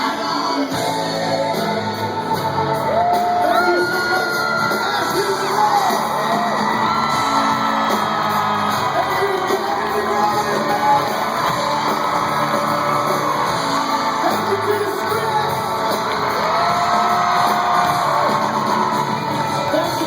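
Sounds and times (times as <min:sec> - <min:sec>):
crowd shouting and whooping: 0:00.0 - 0:20.0
live pop-rock band: 0:00.0 - 0:20.0.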